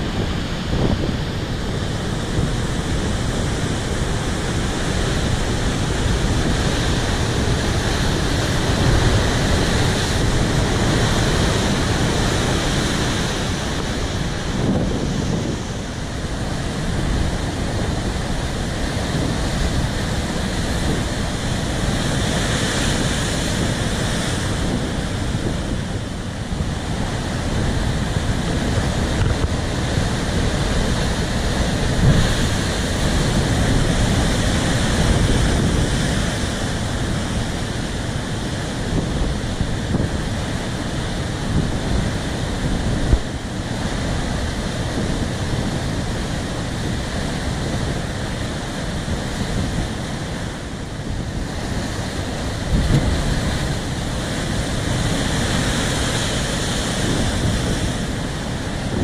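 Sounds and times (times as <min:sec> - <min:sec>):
ocean waves breaking on rocks: 0:00.0 - 0:59.0
wind buffeting microphone: 0:00.0 - 0:59.0.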